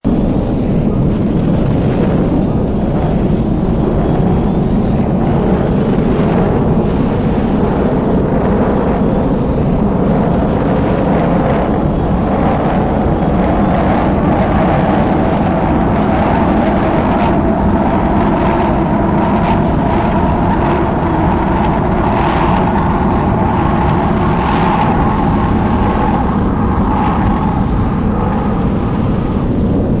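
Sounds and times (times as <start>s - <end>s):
jet engine running: 0.0s - 30.0s.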